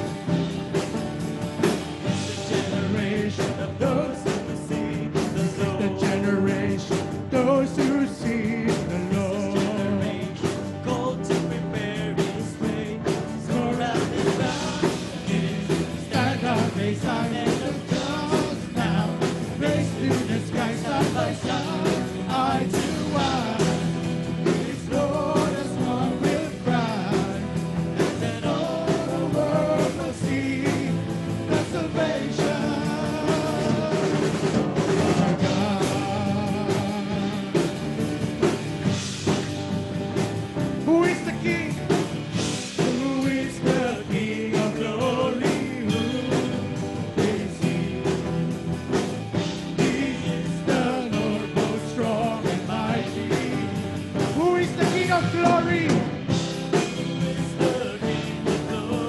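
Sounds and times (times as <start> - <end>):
live band playing guitars: 0.0 - 59.0
man singing into a microphone: 2.1 - 37.7, 40.8 - 41.9, 42.8 - 48.3, 49.6 - 56.1, 56.7 - 59.0.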